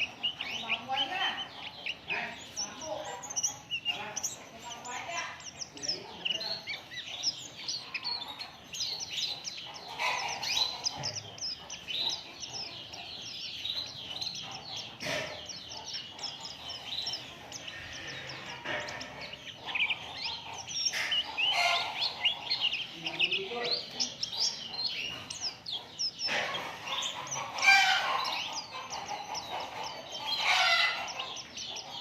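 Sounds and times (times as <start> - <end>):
bird twittering chirps: 0.0 - 32.0.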